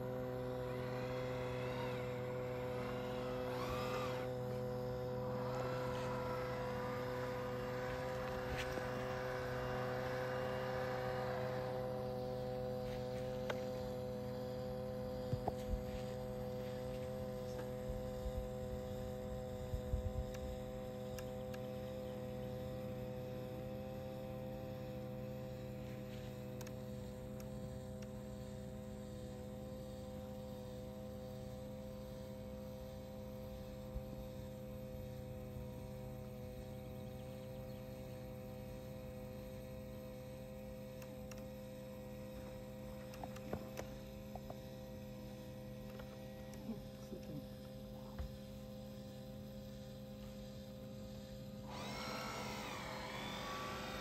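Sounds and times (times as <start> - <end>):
model boat motor humming: 0.0 - 54.0.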